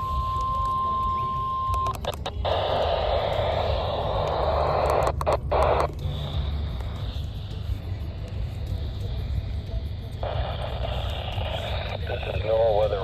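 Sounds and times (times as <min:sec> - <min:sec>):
low hum: 0:00.0 - 0:13.0
radio static hiss: 0:00.0 - 0:13.0.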